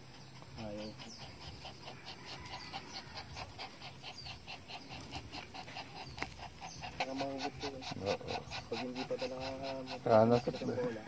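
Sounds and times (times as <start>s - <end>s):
dog panting fast: 0.0s - 11.0s.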